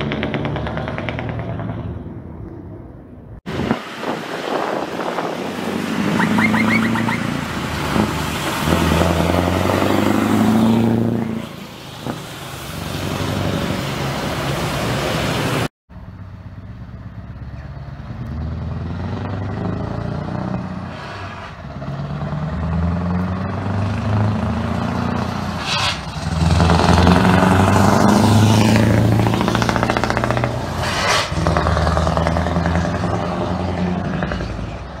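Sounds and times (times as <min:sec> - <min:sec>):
truck engine accelerating: 0:00.0 - 0:35.0.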